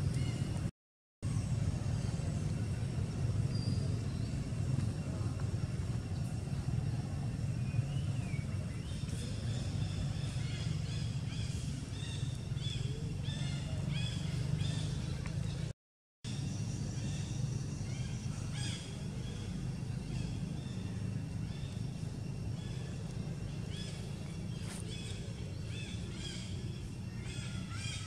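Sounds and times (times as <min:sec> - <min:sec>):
low outdoor rumble: 0:00.0 - 0:15.7, 0:16.3 - 0:28.0.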